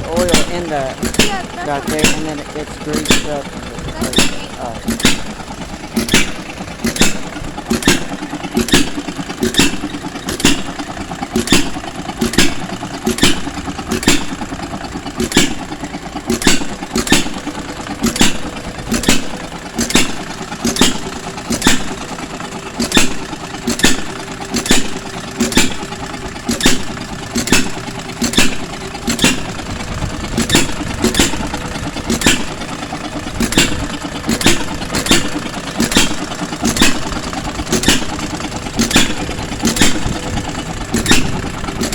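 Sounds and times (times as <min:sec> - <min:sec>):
mechanical clatter: 0:00.0 - 0:41.9
stationary engine firing pops: 0:00.0 - 0:41.9.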